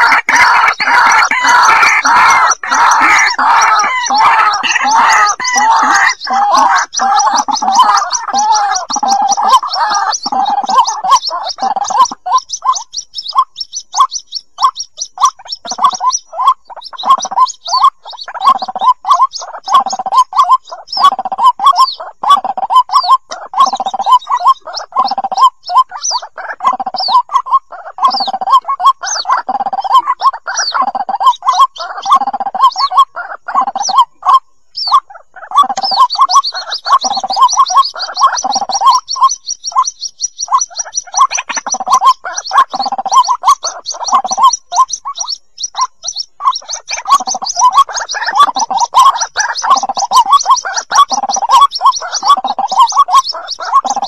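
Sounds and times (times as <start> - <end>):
bird chicks gurgling calls: 0.0 - 54.0.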